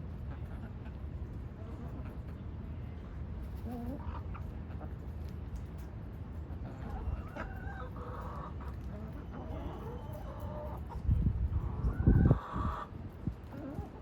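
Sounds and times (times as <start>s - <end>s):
chickens clucking: 0.2s - 2.4s, 3.4s - 5.2s, 6.6s - 14.0s.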